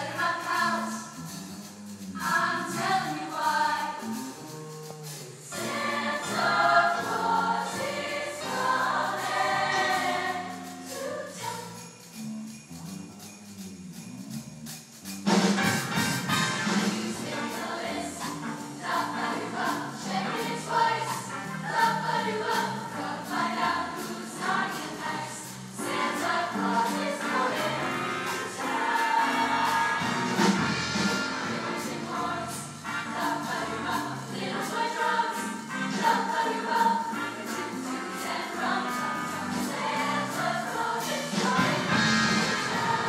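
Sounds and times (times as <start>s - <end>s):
choir singing in parts: 0.0s - 1.1s, 2.2s - 4.2s, 5.4s - 11.9s, 16.3s - 43.0s
instrumental accompaniment with beat: 0.0s - 43.0s.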